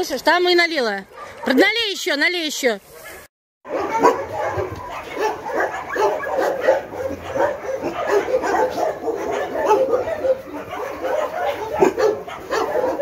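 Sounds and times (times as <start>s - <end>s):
dogs barking and yelping: 1.0s - 1.8s, 2.8s - 13.0s.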